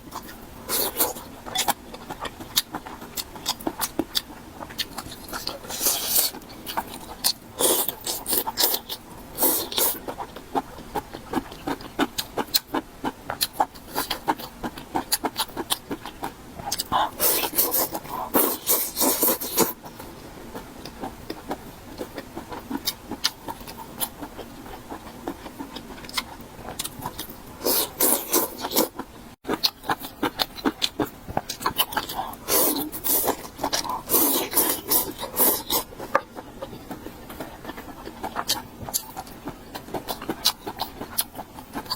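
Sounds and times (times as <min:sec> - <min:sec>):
chewing: 0:00.0 - 0:41.9.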